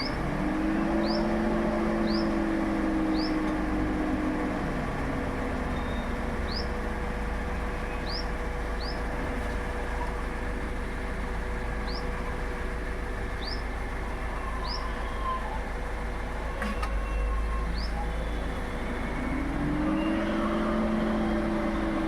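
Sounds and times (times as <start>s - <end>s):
car engine running hum: 0.0s - 22.0s.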